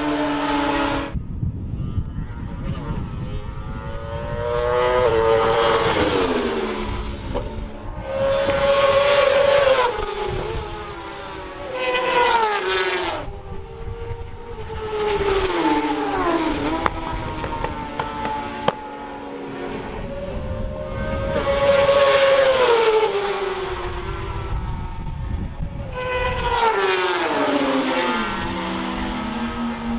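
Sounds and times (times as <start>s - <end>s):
racing motorcycles passing: 0.0s - 29.9s.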